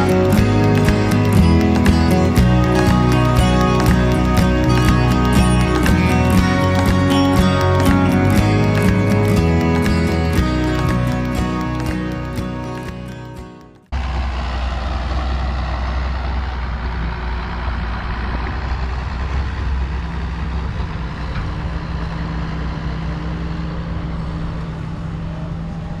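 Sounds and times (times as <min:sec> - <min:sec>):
diesel engine drone: 0:00.0 - 0:26.0
higher engine note: 0:00.0 - 0:26.0.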